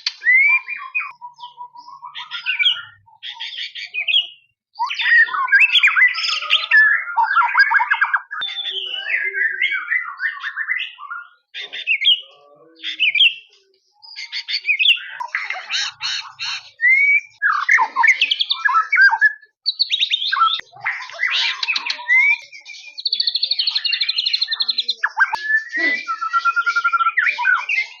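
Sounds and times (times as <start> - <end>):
bird singing whistles and trills: 0.0 - 12.3, 12.9 - 15.4, 16.6 - 28.0.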